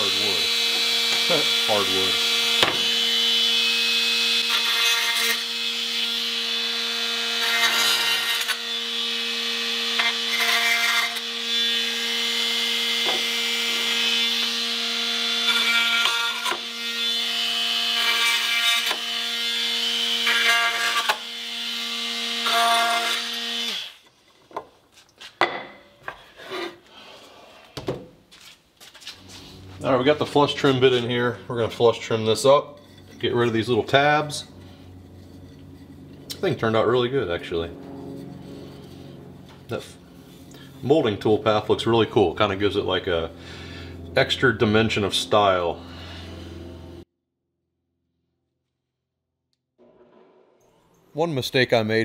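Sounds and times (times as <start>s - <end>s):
oscillating multi-tool cutting wood: 0.0s - 24.2s, 29.2s - 47.1s.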